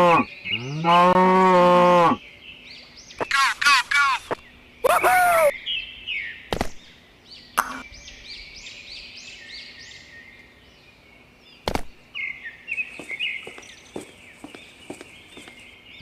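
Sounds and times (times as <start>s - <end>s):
small birds chirping: 0.0s - 1.2s, 2.1s - 16.0s.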